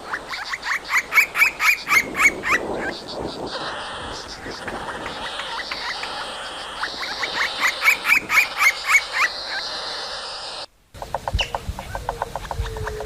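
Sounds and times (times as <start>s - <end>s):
bird calling sharp notes: 0.0s - 13.0s
steady high hiss: 0.0s - 13.0s.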